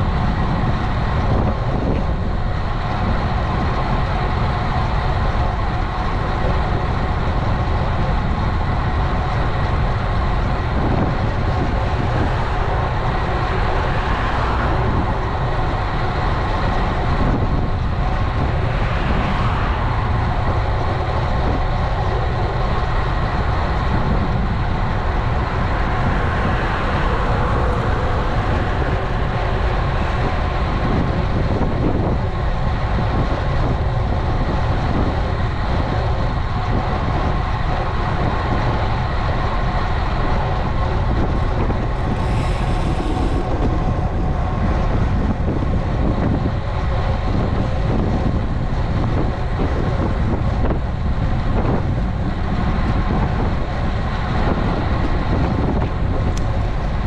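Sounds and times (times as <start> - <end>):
bike tyre rolling noise: 0.0 - 57.0
wind rush: 0.0 - 57.0.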